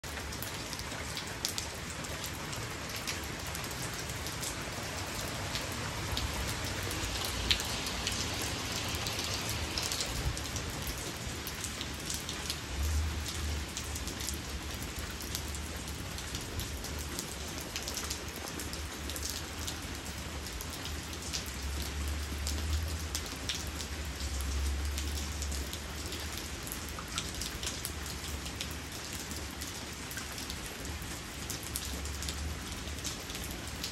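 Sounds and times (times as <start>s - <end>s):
rain on concrete: 0.0s - 33.9s.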